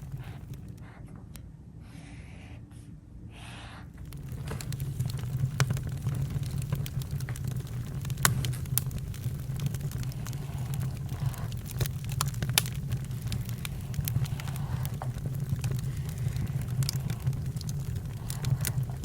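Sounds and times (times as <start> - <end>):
campfire crackling: 0.0 - 0.8, 3.9 - 19.0.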